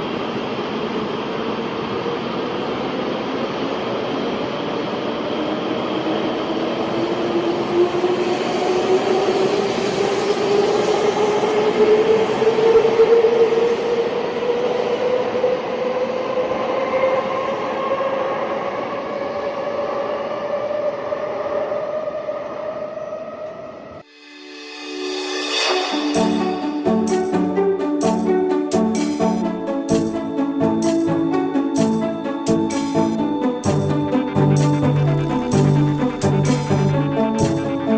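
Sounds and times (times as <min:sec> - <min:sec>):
high-speed train rushing: 0:00.0 - 0:37.9
train whine: 0:00.0 - 0:37.9.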